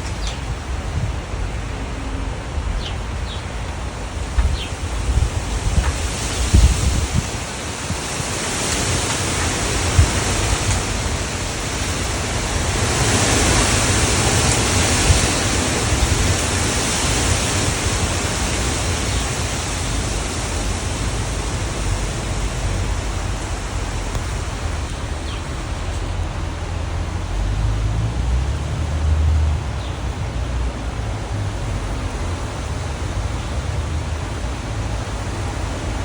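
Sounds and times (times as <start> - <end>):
strong wind gusting through trees: 0.0 - 36.0
wind buffeting microphone: 0.0 - 36.0.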